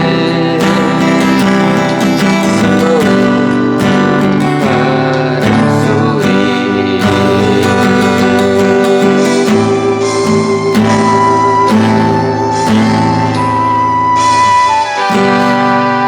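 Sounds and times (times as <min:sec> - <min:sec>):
guitar melody with bent notes: 0:00.0 - 0:16.0
plucked guitar accompaniment: 0:00.0 - 0:16.0.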